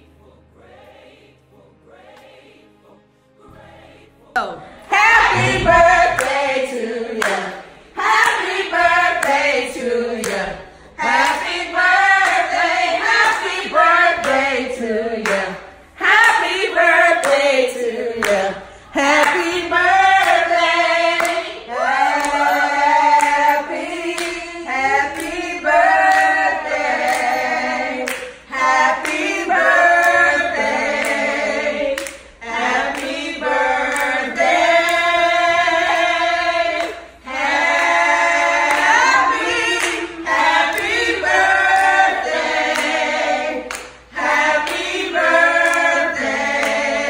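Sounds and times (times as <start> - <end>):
group of voices singing: 0.0 - 47.0.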